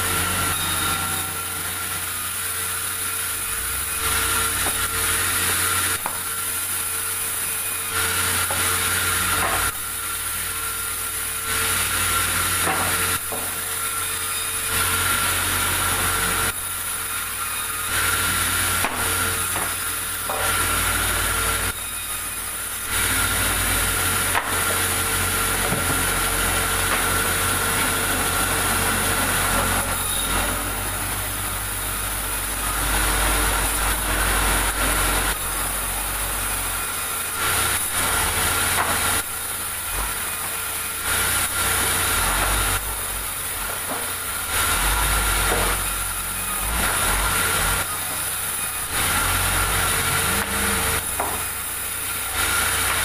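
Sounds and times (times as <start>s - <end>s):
machine whine and hum: 0.0s - 53.0s
saw blade cutting wood: 0.0s - 53.0s.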